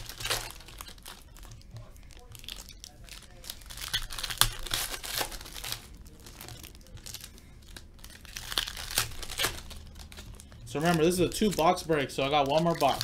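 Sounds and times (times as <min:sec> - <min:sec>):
foil wrapper crackling: 0:00.0 - 0:13.0.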